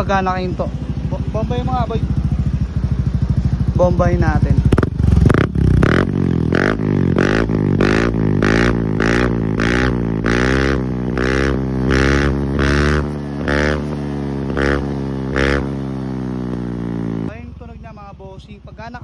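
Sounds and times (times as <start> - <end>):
scooter engine revving: 0.0 - 17.4.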